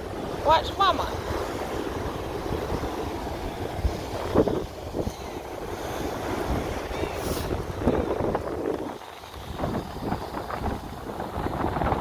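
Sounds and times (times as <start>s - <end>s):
small waves breaking: 0.0s - 12.0s
wind buffeting microphone: 0.0s - 12.0s.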